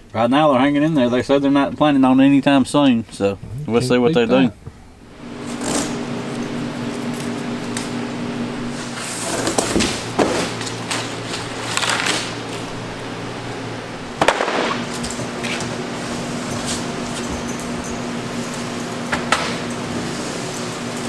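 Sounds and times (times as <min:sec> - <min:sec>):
steady hum: 0:03.2 - 0:21.0.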